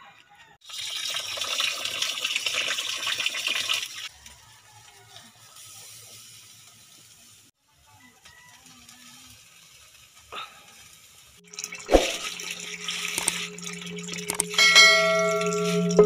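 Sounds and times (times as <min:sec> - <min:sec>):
fish sizzling over fire: 0:00.6 - 0:16.0.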